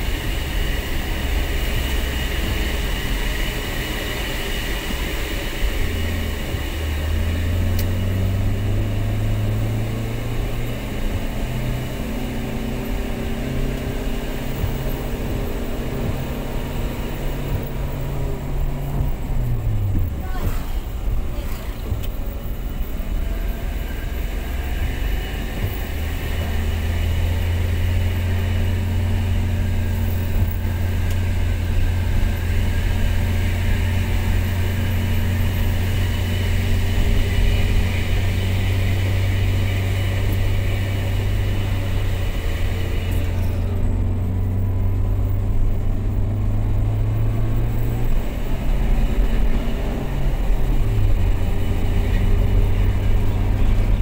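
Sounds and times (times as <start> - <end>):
car engine and road noise: 0.0 - 54.0
low hum: 0.0 - 54.0.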